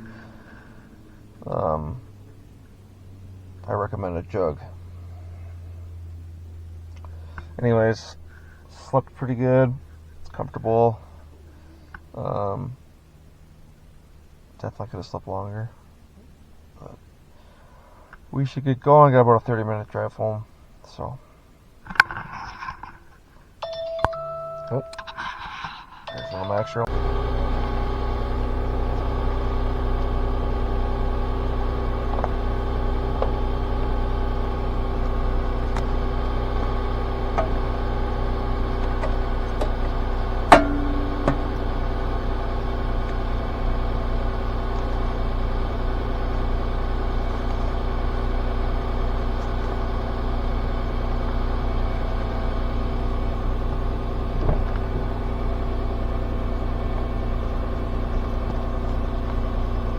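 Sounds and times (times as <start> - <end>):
car engine idling: 0.0 - 14.8, 24.1 - 59.9.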